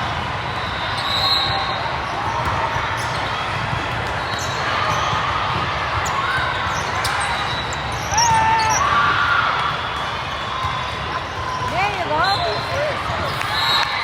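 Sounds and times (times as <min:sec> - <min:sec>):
crowd voices: 0:00.0 - 0:14.0.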